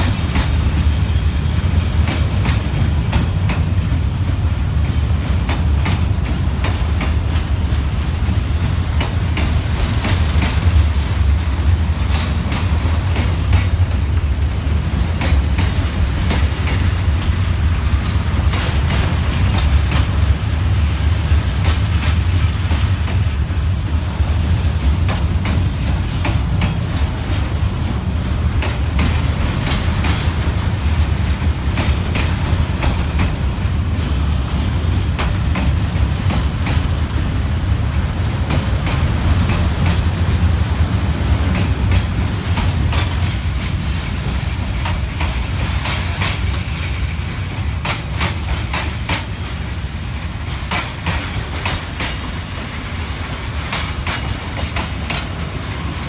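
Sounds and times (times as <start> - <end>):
wheels clacking over rail joints: 0.0 - 23.5, 24.5 - 56.0
train wheels rumbling on rail: 0.0 - 56.0.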